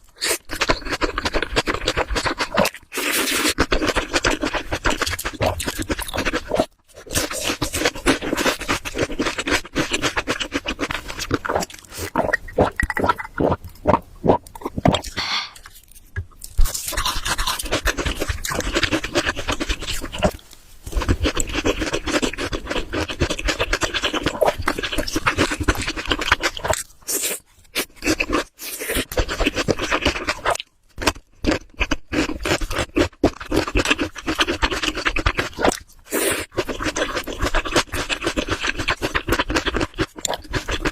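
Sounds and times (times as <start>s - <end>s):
wet chewing and smacking: 0.1s - 40.9s.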